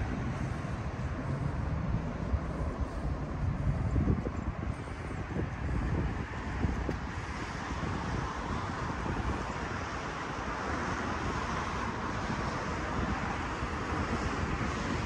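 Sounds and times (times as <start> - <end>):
cars passing: 0.0 - 15.0
wind rumbling on microphone: 0.0 - 15.0.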